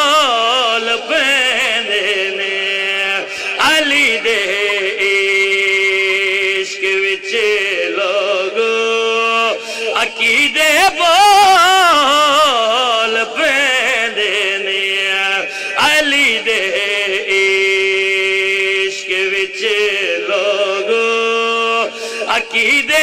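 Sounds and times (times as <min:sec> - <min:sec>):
man chanting through a microphone: 0:00.0 - 0:23.0.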